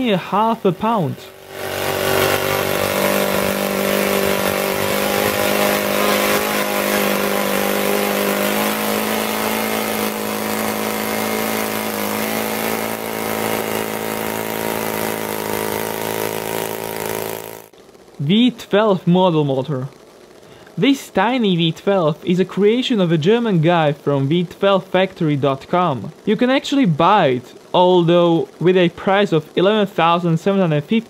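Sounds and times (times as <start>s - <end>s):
model aircraft engine running: 0.0s - 31.0s.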